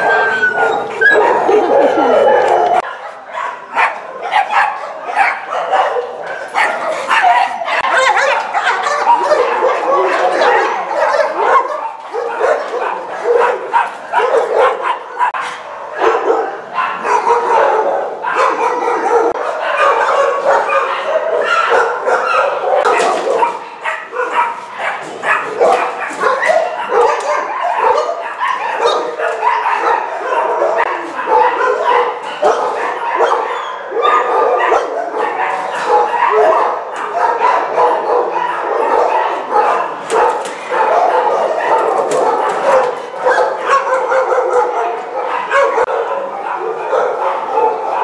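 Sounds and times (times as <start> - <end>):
dogs barking and yipping: 0.0 - 48.0.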